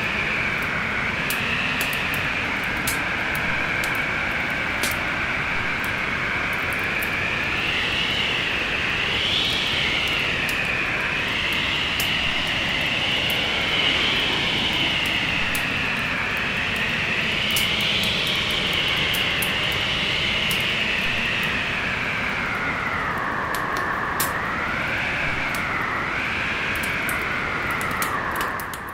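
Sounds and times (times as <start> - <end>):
howling wind: 0.0 - 28.9
wood fire crackling: 0.0 - 28.9.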